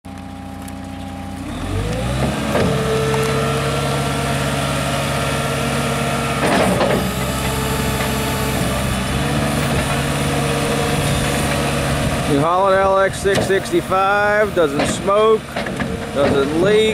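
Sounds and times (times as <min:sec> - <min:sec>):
diesel loader engine revving: 0:00.1 - 0:16.9.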